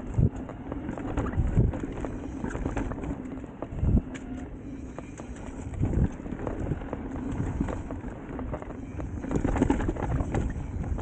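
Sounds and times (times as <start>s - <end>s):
bike knocking and rattling: 0.0s - 11.0s
tyre and wind rumble: 0.0s - 11.0s.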